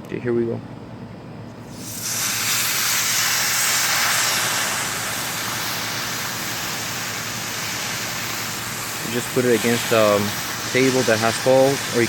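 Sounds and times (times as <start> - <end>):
garden hose spraying water: 1.7 - 12.0.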